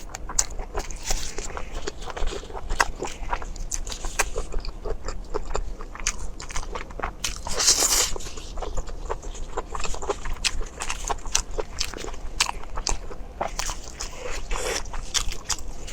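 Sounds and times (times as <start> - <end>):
chewing with wet mouth clicks: 0.0 - 15.9.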